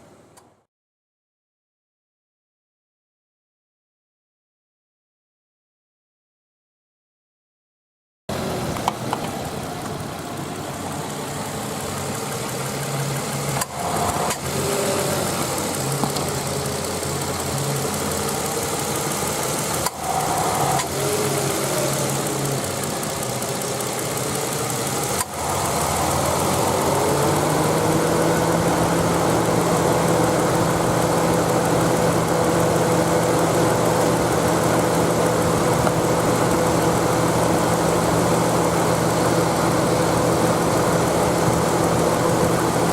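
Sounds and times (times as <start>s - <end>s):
car engine idling: 8.3s - 42.9s.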